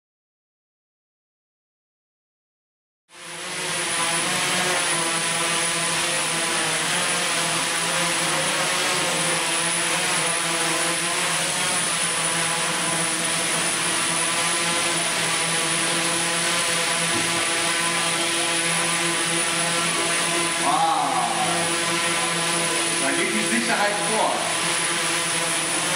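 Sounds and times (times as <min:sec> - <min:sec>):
drone rotors humming: 0:03.2 - 0:25.9.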